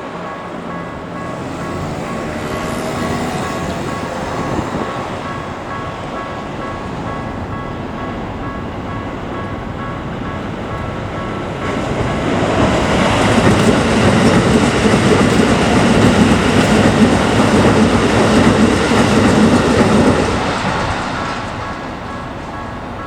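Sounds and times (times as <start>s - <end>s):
level crossing warning bell: 0.0s - 20.8s, 21.5s - 23.0s
train wheels clattering on rails: 0.0s - 23.0s.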